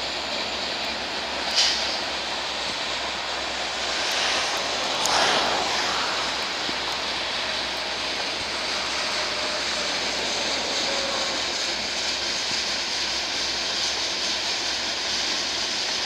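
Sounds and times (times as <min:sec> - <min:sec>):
steel wheels rumbling on rail: 0:00.0 - 0:16.0.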